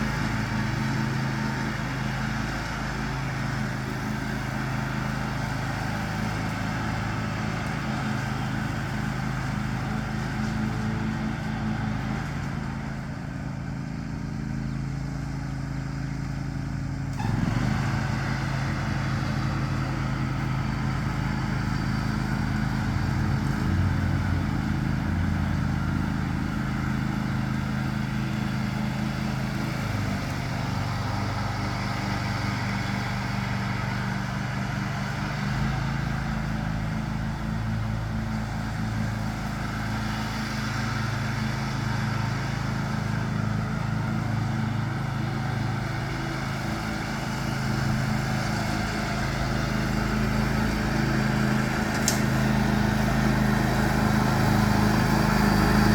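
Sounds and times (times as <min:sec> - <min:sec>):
lawn tractor engine mowing: 0:00.0 - 0:55.9.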